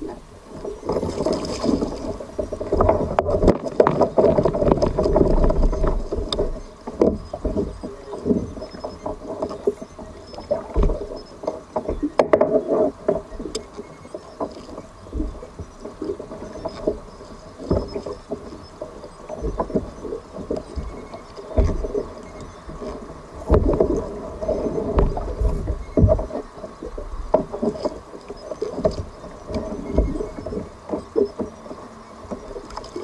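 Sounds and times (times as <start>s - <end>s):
water sloshing and splashing: 0.0s - 33.0s.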